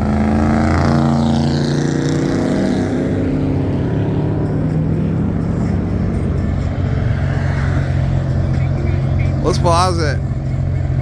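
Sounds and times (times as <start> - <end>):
car engines low rumble: 0.0 - 11.0.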